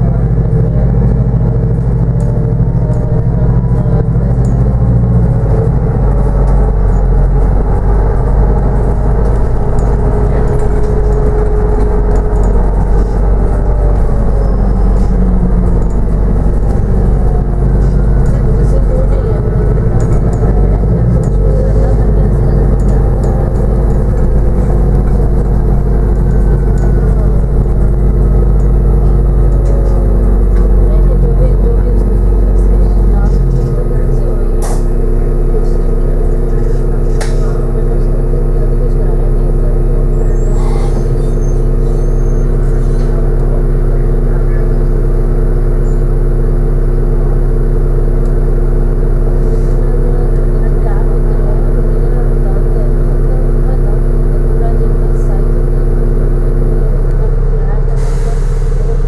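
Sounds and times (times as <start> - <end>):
bus drivetrain humming: 0.0 - 59.0
road noise: 0.0 - 59.0.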